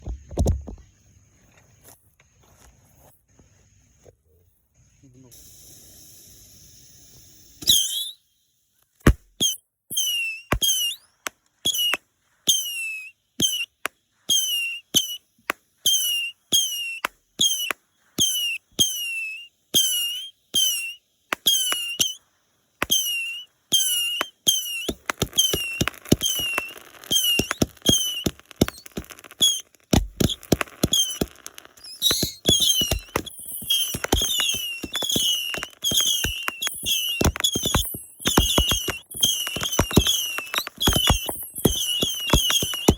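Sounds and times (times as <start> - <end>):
firework shots cracking and whistling: 5.0 - 42.9
firework crackling: 5.1 - 8.2, 9.9 - 42.9.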